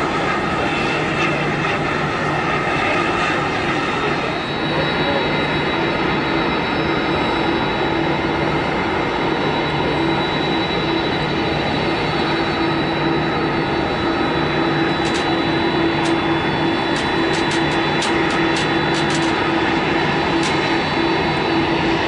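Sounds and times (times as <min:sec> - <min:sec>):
aircraft engines droning: 0:00.0 - 0:22.0.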